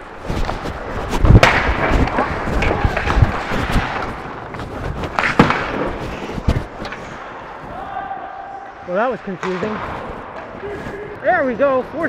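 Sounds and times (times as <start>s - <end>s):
skates scraping ice: 0.0s - 12.0s
sticks and puck clacking: 0.0s - 12.0s.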